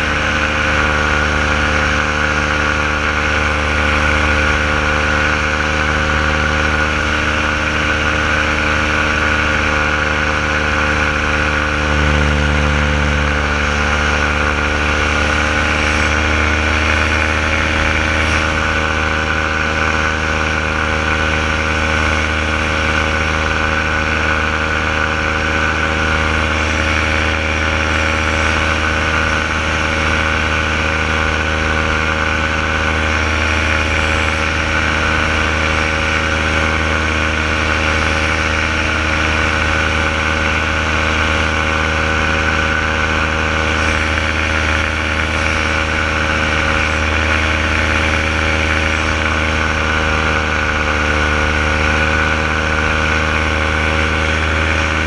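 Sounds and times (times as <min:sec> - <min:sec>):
paramotor engine droning: 0:00.0 - 0:55.0.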